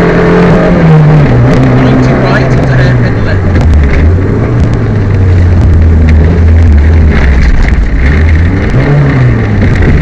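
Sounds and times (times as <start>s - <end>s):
rally car engine running hard: 0.0s - 10.0s.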